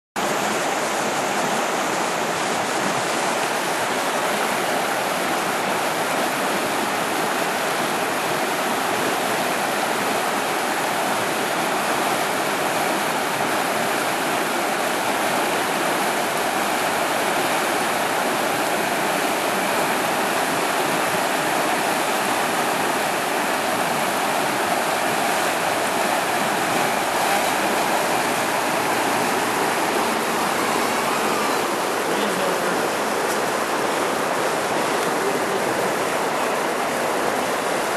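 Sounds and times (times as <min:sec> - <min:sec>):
river rapids rushing over rocks: 0:00.2 - 0:37.9.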